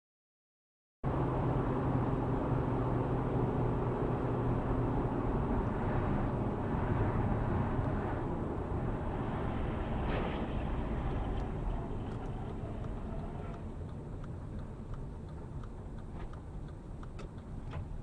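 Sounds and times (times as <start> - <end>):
car engine and road noise: 1.0 - 18.0.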